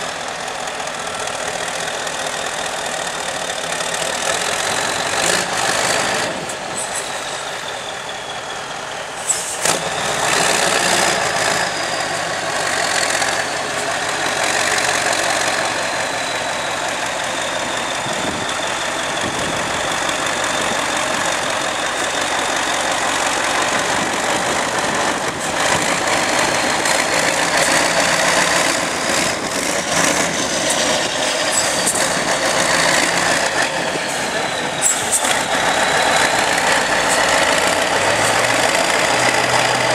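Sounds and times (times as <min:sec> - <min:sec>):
high engine whine: 0:00.0 - 0:39.9
truck engine running hard: 0:00.0 - 0:39.9.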